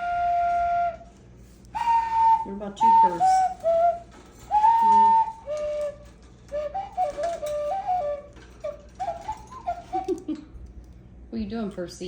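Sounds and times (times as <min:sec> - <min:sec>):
parrot whistling a tune: 0:00.0 - 0:10.4.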